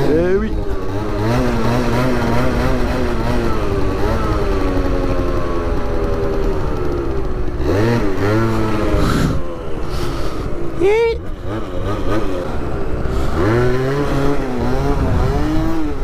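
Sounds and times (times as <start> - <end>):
small scooter engine running: 0.0 - 16.0.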